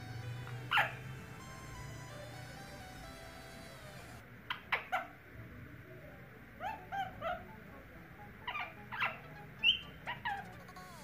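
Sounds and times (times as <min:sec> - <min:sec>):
parakeet calling: 0:00.0 - 0:05.1, 0:06.6 - 0:07.6, 0:08.2 - 0:11.0.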